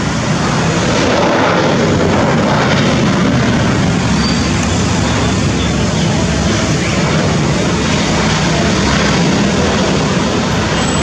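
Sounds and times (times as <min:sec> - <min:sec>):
turboprop airliner engines roaring: 0:00.0 - 0:11.0.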